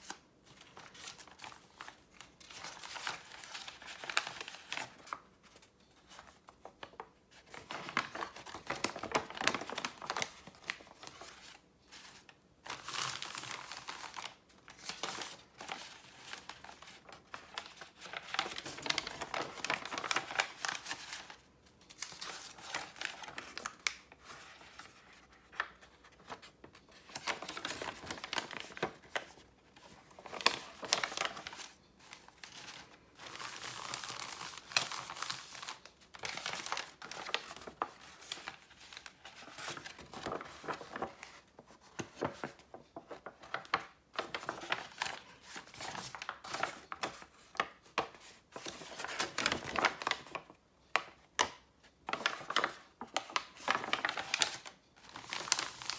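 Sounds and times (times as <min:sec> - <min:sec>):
paper crackles and snaps: 0:00.0 - 0:55.9
paper rustling and crinkling: 0:00.0 - 0:55.9.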